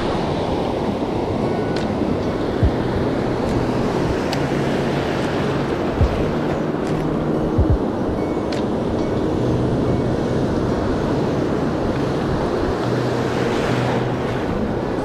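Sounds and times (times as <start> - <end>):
waves breaking in shallows: 0.0 - 15.0
wind buffeting microphone: 0.0 - 15.0.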